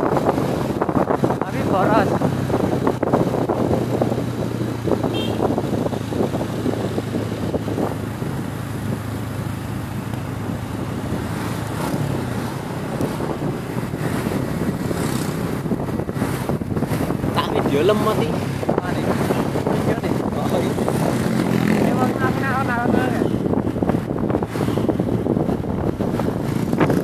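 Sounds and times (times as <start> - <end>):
motor scooter engine hum: 0.0 - 27.0
wind and road noise: 0.0 - 27.0.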